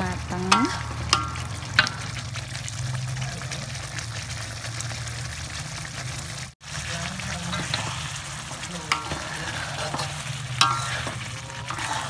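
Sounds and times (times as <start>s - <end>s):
sauce simmering and bubbling: 0.0s - 12.0s.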